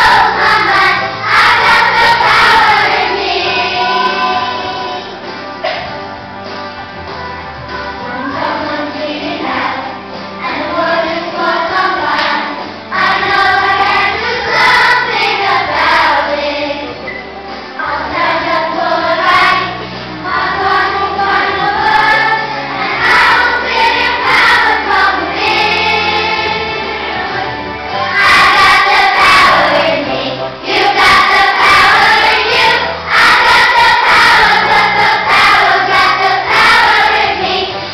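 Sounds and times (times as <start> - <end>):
children's choir singing: 0.0 - 5.9, 7.3 - 37.9.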